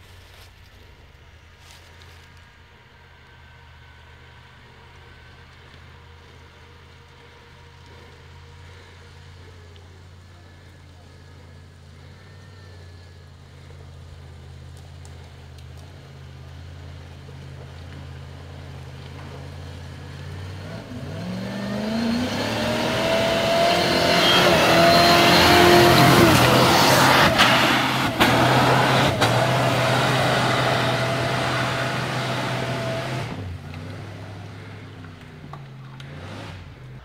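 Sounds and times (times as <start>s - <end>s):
off-road vehicle engine climbing: 0.0s - 37.0s.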